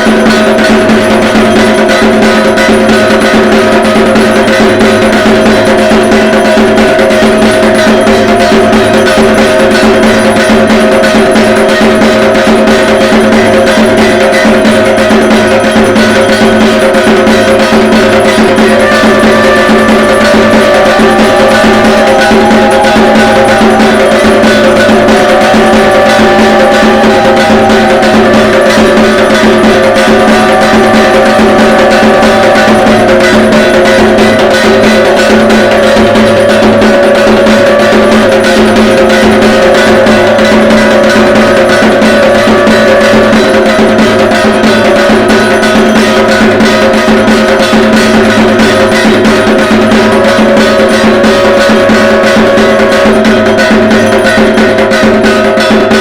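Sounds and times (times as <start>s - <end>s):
drums beaten with sticks: 0.0s - 56.0s
held ringing tones: 0.0s - 56.0s.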